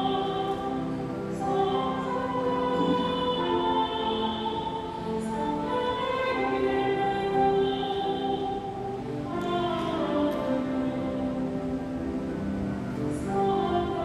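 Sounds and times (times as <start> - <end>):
choir singing a hymn: 0.0 - 14.0.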